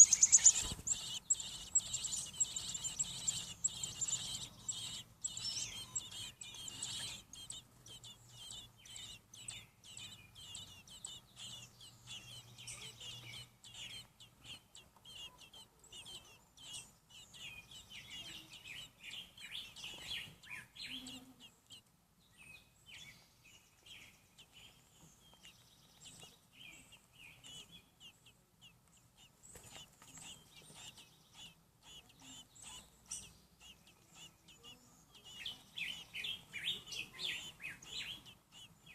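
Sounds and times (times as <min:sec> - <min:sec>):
baby birds peeping: 0:00.0 - 0:38.9.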